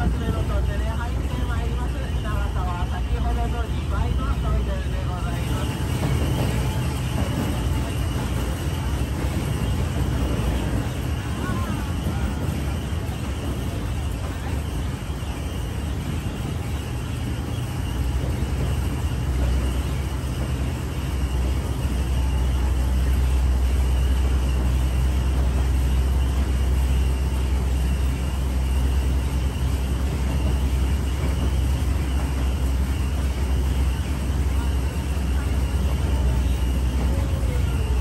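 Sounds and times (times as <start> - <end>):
rail cart rumbling on rails: 0.0 - 38.0.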